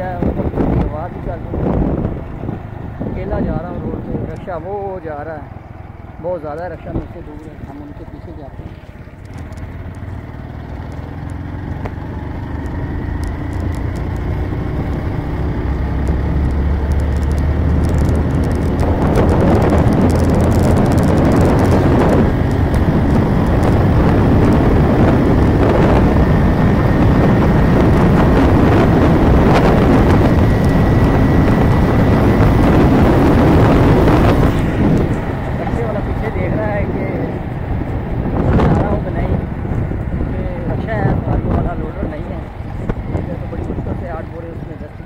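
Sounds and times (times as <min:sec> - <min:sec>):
vehicle engine accelerating: 0:00.0 - 0:45.0
wind buffeting microphone: 0:00.0 - 0:45.0.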